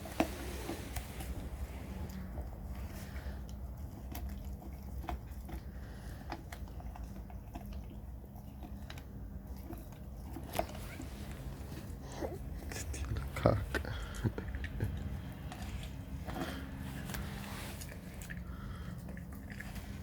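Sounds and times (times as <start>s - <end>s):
dog chewing bone: 0.0s - 20.0s.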